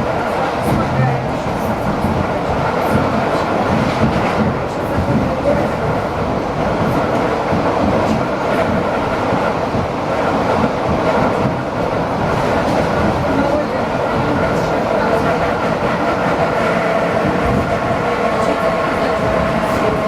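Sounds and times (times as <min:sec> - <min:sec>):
train wheels running on rails: 0:00.0 - 0:20.0.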